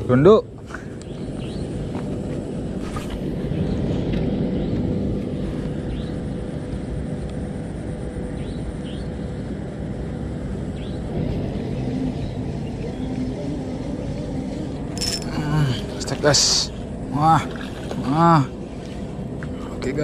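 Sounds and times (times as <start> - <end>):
faint hum: 0.0 - 20.0
low outdoor rumble: 0.0 - 20.0.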